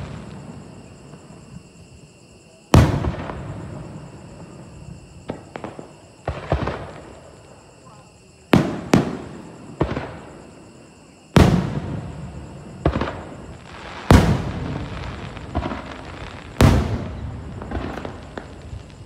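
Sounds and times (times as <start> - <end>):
firework bangs with echoing rumble: 0.0 - 1.7, 2.7 - 7.6, 8.5 - 10.6, 11.3 - 19.0.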